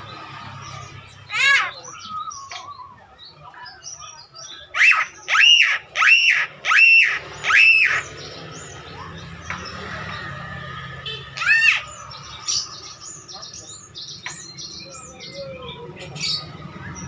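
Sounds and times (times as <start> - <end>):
myna bird calling: 0.0 - 10.4, 11.0 - 17.0.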